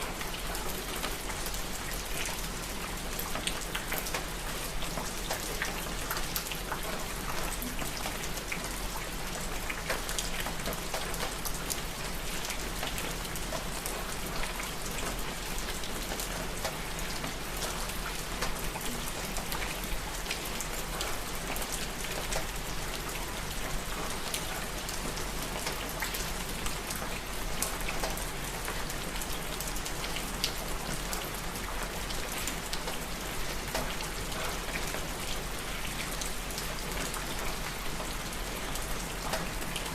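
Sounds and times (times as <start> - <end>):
rain drops striking surface: 0.0 - 39.9.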